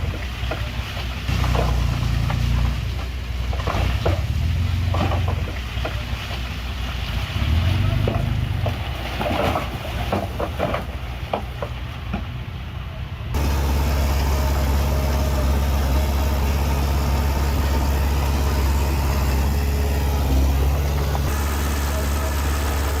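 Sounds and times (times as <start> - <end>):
heavy diesel machinery engine drone: 0.0 - 9.0, 12.6 - 23.0.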